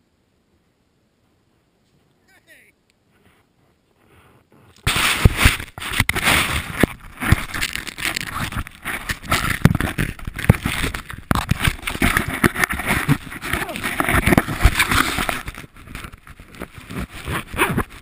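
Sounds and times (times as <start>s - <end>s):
snow crunching and scraping: 3.0s - 18.0s.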